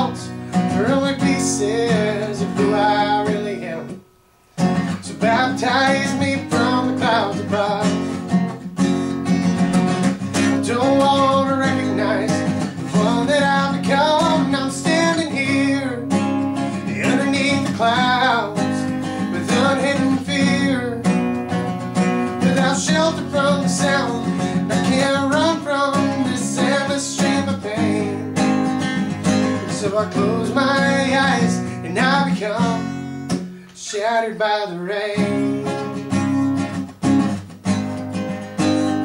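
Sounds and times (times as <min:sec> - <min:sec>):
man singing: 0:00.0 - 0:04.0, 0:04.9 - 0:08.4, 0:10.3 - 0:21.4, 0:22.3 - 0:36.3
acoustic guitar: 0:00.0 - 0:39.0.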